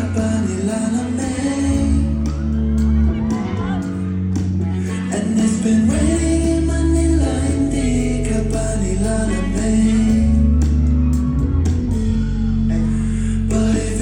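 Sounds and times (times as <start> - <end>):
live band playing pop song: 0.0 - 14.0
person singing: 0.0 - 14.0.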